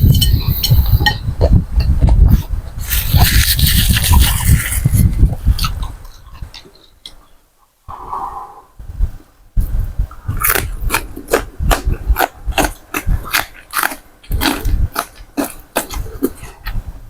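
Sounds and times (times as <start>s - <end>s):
wet chewing and mouth smacks: 0.1s - 7.2s, 10.1s - 16.8s.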